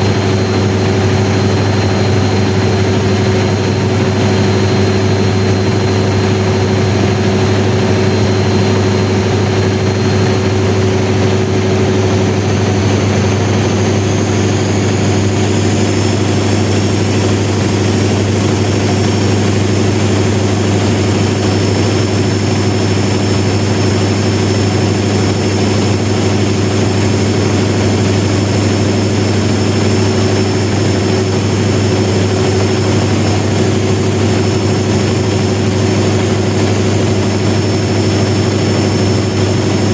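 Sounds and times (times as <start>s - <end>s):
diesel generator droning: 0.0s - 39.9s.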